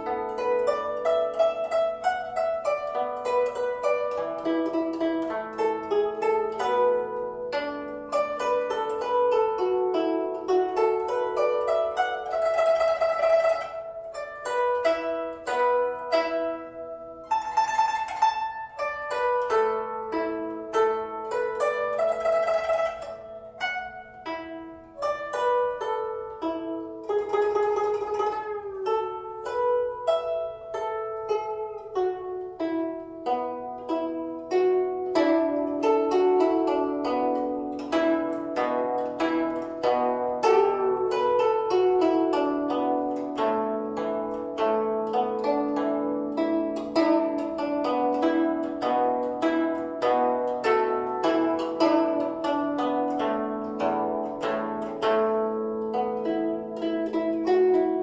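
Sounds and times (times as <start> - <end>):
plucked zither melody: 0.0 - 58.0.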